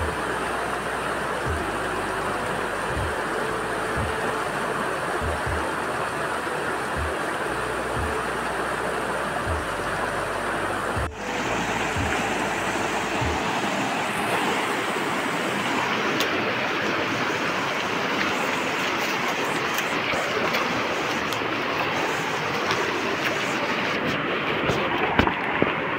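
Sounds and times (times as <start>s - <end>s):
river rushing over rocks: 0.0s - 25.9s.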